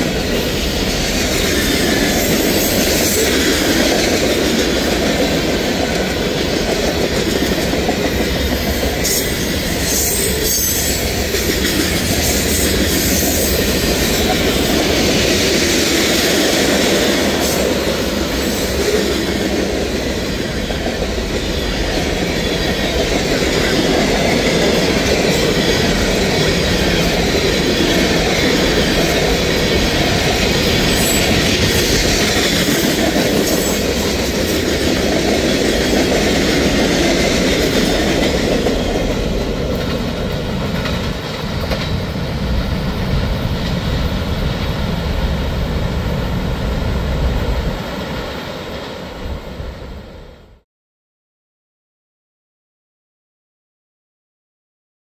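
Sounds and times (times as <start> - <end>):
freight train wheels clattering: 0.0 - 45.4.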